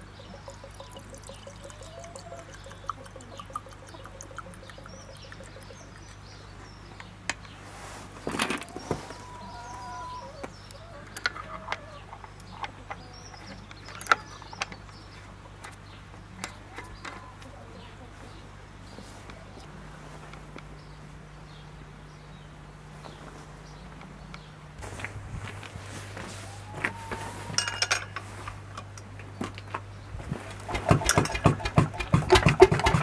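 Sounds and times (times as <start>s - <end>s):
faint birds chirping: 0.0s - 33.0s.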